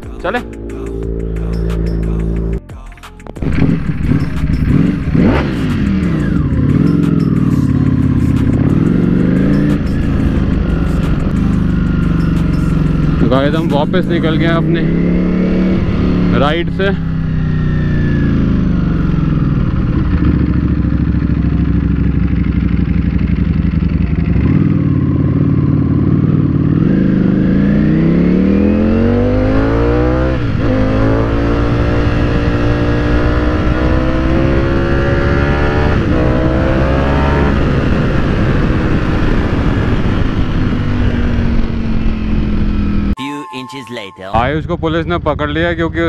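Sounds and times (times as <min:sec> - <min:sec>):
motorcycle engine revving: 0:03.4 - 0:43.2.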